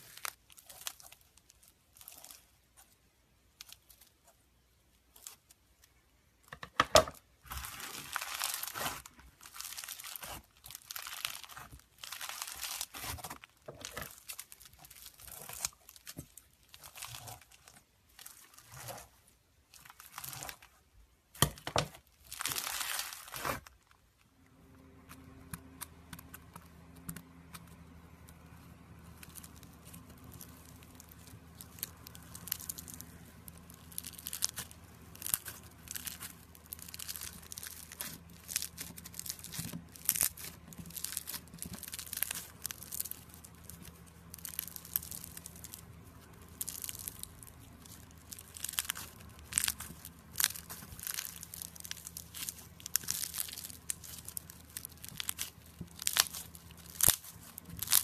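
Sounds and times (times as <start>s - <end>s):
slime crackling and popping: 0.0s - 6.0s, 6.7s - 58.0s
faint steady hum: 0.0s - 58.0s.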